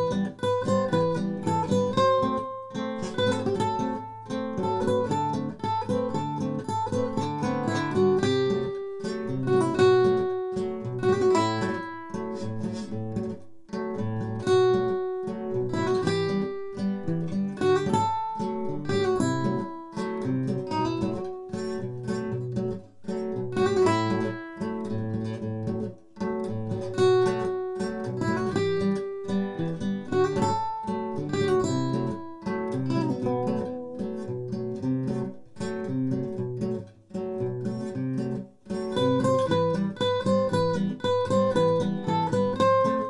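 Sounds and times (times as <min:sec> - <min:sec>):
classical guitar duet: 0:00.0 - 0:43.0.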